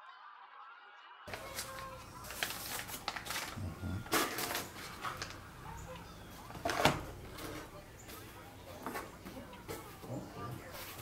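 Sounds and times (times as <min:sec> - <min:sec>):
paper envelopes rustling: 0:01.3 - 0:11.0.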